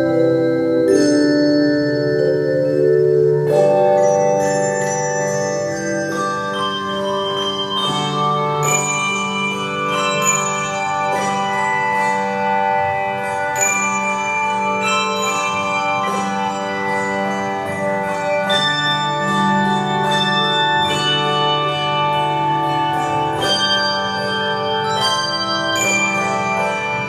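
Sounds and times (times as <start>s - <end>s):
bell-like struck notes: 0.0s - 27.0s
instrumental music with sustained chords: 0.0s - 27.0s.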